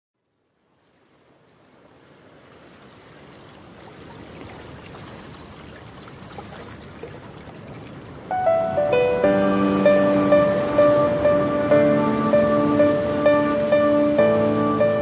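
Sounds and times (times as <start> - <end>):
rushing water: 0.3 - 15.0.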